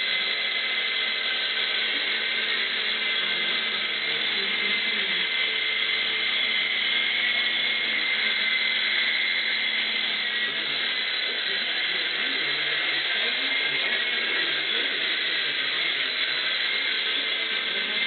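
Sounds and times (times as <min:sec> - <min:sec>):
toy helicopter rotor whirring: 0:00.0 - 0:18.0.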